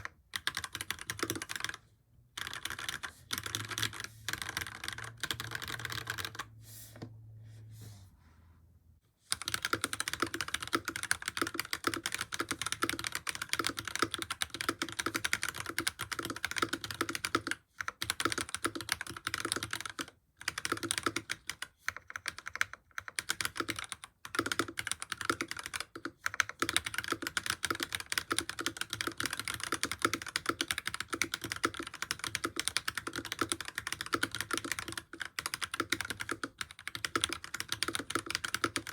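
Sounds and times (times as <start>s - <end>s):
mechanical keyboard typing: 0.0s - 1.8s, 2.4s - 6.5s, 9.3s - 38.9s.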